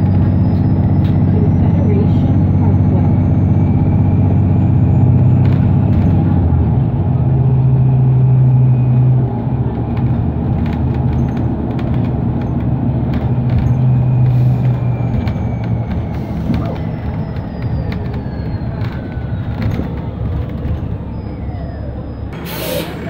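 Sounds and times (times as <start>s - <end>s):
bus drivetrain hum: 0.0s - 23.0s.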